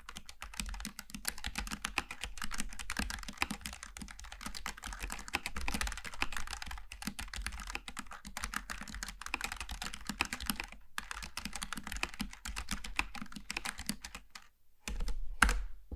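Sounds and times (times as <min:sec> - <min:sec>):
fast typing on mechanical keyboard: 0:00.0 - 0:15.6.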